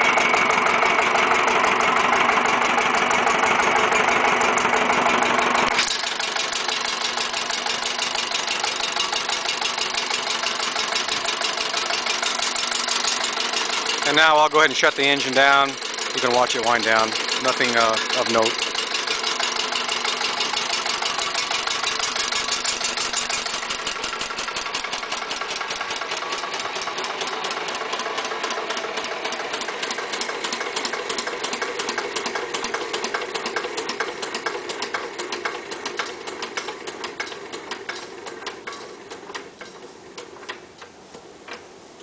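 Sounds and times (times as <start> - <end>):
diesel engine winding down: 0.0 - 40.6.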